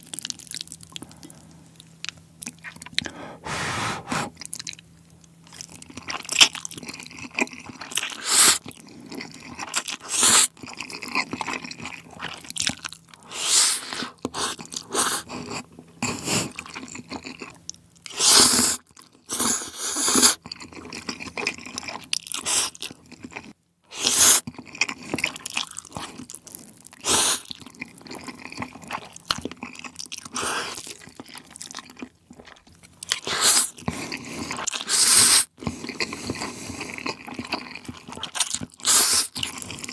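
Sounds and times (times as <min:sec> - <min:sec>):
chewing and slurping noodles: 0:05.5 - 0:39.9.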